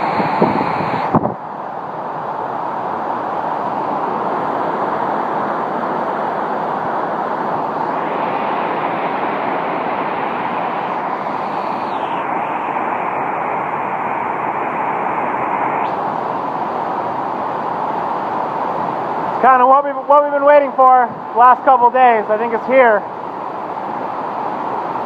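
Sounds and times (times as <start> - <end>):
hurricane wind: 0.0 - 25.0.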